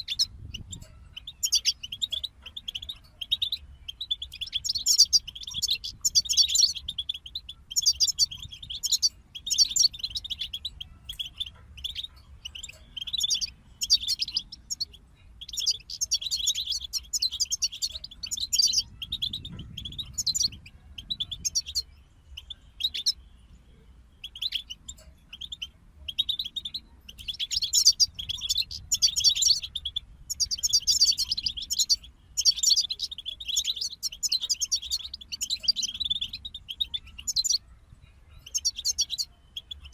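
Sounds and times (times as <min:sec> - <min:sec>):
goldfinches singing: 0:00.0 - 0:39.9.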